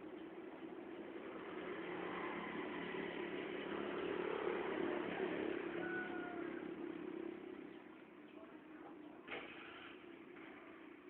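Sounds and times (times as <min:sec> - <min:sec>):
engine-like droning hum: 0:00.0 - 0:11.0.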